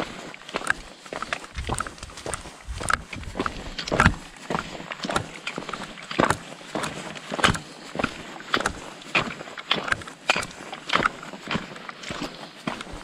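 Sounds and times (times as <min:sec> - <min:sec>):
footsteps crunching on stony trail: 0:00.0 - 0:13.0
trekking poles clicking on ground: 0:00.0 - 0:13.0.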